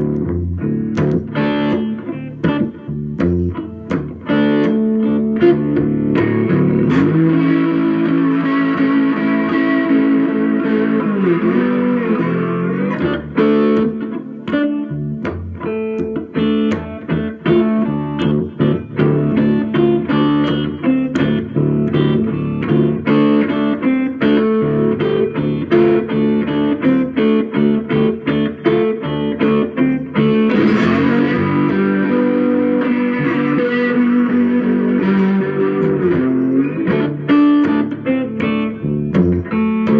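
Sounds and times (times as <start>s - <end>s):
slide guitar playing: 0.0s - 39.9s.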